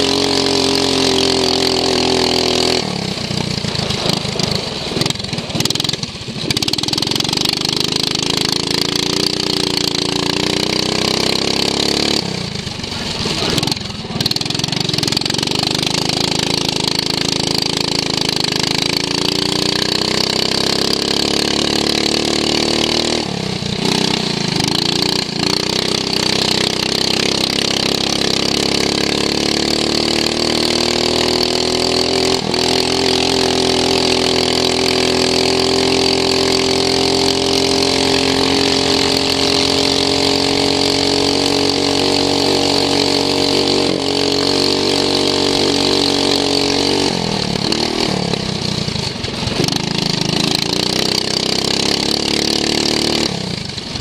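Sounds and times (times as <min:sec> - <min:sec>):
lawn mower engine revving: 0:00.0 - 0:54.0.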